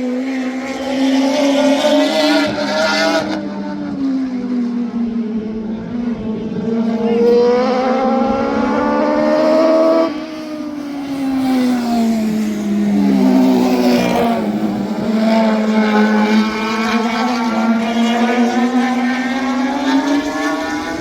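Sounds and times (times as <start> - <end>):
race engine revving: 0.0 - 21.0.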